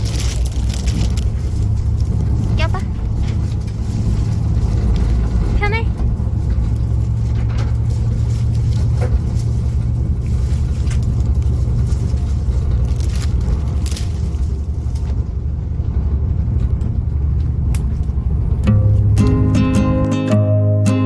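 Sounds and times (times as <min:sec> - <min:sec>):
low rumble of vehicles: 0:00.0 - 0:21.0.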